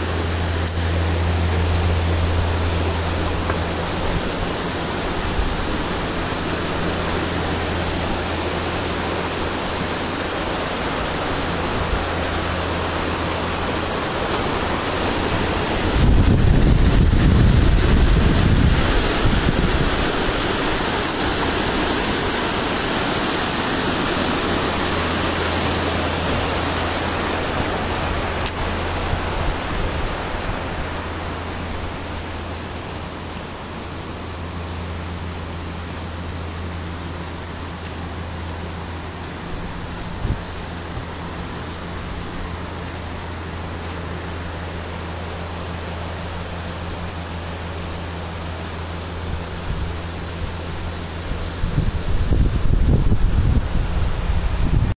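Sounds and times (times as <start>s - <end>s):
river water rushing over rapids: 0.0s - 54.9s.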